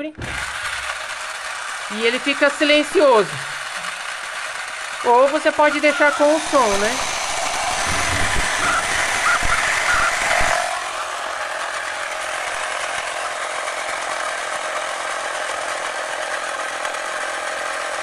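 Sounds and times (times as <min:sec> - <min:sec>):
toy car engine noise: 0:00.2 - 0:18.0.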